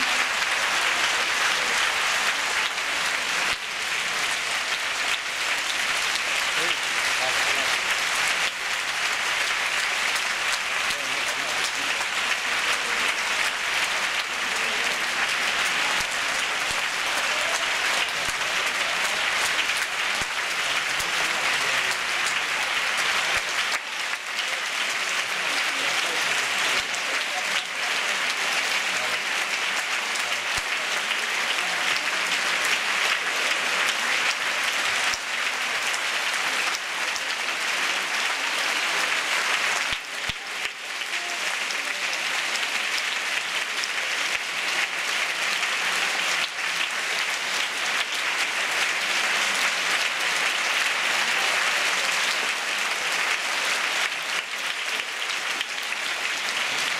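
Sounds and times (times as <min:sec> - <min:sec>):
audience applauding: 0:00.0 - 0:56.9.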